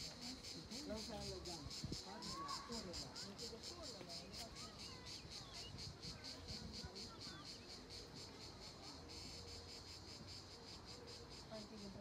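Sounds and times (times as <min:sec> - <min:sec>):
insects chirring in pulses: 0:00.0 - 0:12.0.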